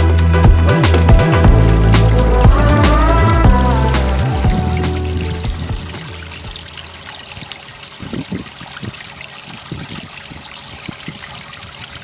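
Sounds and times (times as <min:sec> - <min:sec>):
small waterfall splashing: 0:00.1 - 0:12.0.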